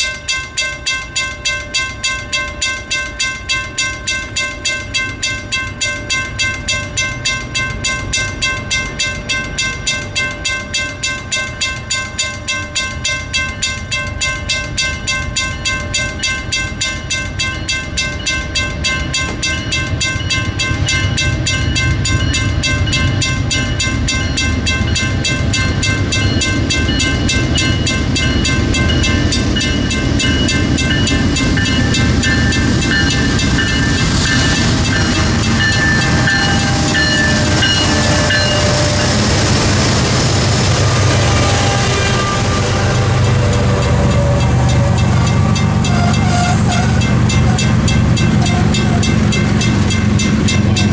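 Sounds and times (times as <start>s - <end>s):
crossing bell ringing: 0.0s - 50.9s
train rumble: 0.0s - 50.9s.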